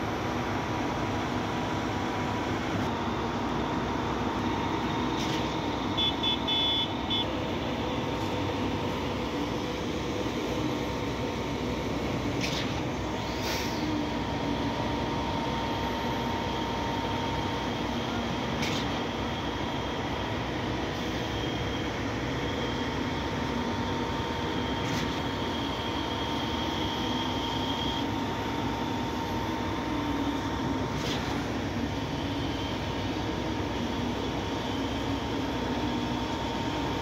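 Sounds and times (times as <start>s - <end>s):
heavy diesel engines droning: 0.0s - 37.0s.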